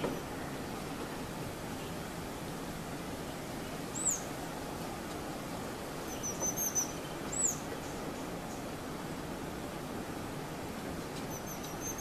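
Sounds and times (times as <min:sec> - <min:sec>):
low background wash: 0:00.0 - 0:12.0
songbirds calling: 0:00.0 - 0:12.0.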